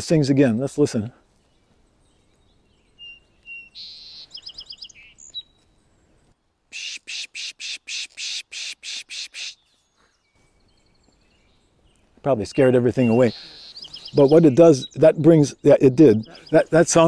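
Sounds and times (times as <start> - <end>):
sparrow singing: 1.3 - 17.0.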